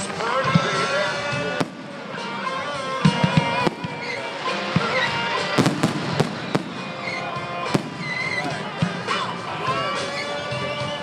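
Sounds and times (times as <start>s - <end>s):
music playing: 0.0s - 11.0s
fireworks bangs and cracks: 0.1s - 9.2s.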